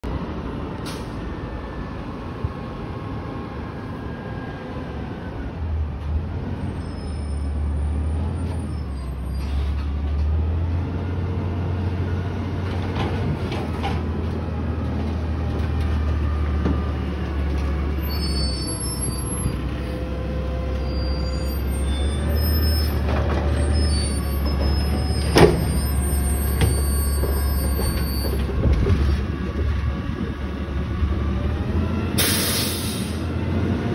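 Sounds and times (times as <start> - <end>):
garbage truck diesel engine: 0.0 - 33.9.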